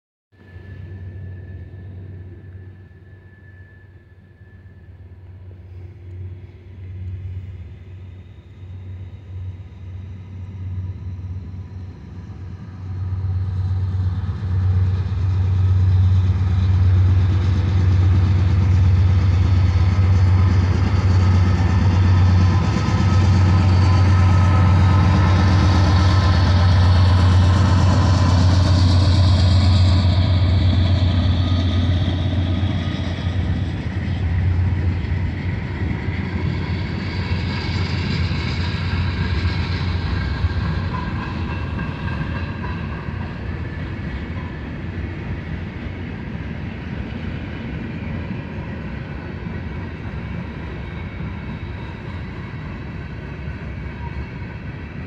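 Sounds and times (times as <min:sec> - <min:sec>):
diesel locomotive engine drone: 0:00.3 - 0:55.0.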